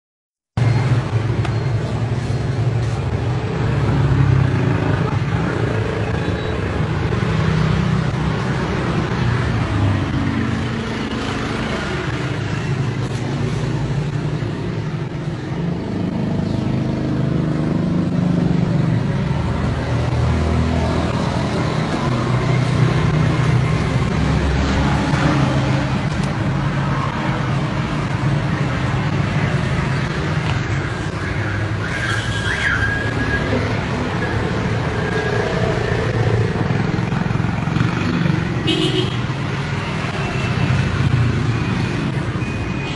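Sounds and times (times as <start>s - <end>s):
road traffic rumble: 0.6s - 42.9s.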